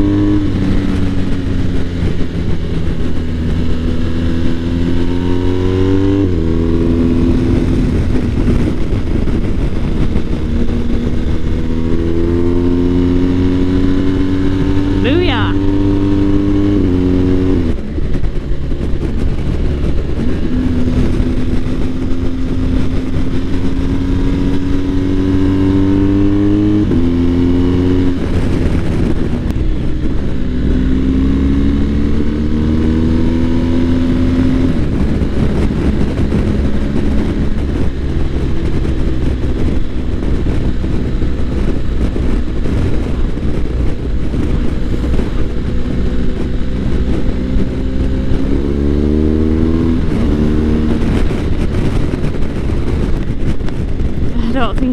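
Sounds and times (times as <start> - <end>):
motorcycle engine running: 0.0 - 54.9
rush of wind and road: 0.0 - 54.9.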